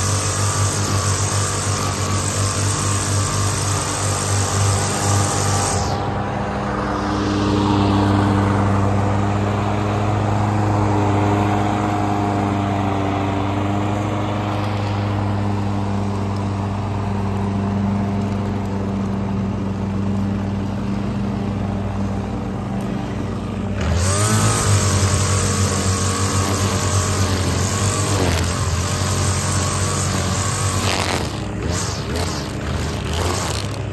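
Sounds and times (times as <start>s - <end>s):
string trimmer running: 0.0s - 33.9s.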